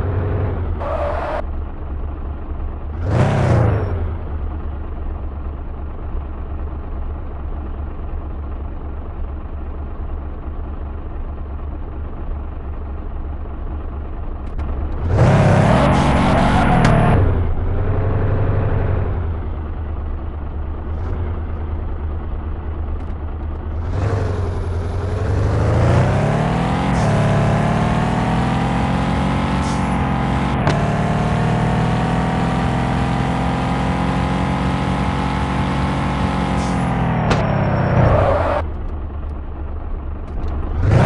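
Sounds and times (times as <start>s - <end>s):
van engine accelerating: 0.0s - 41.0s.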